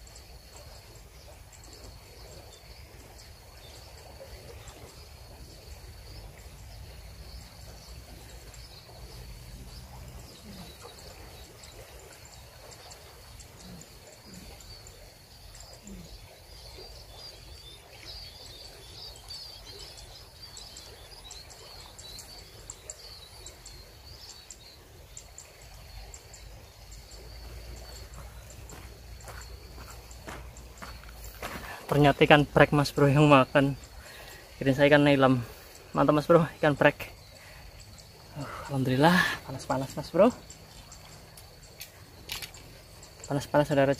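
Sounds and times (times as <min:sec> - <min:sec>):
birds chirping: 0:00.0 - 0:43.9
high insect drone: 0:00.0 - 0:43.9.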